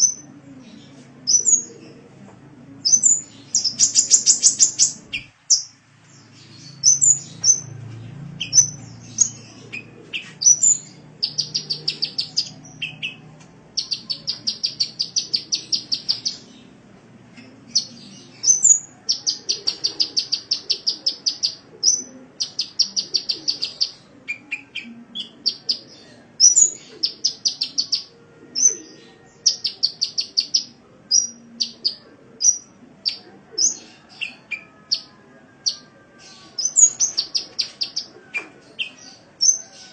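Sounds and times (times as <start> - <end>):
bird chirping and trilling: 0.0 - 0.3, 1.3 - 1.9, 2.8 - 16.8, 17.4 - 39.9.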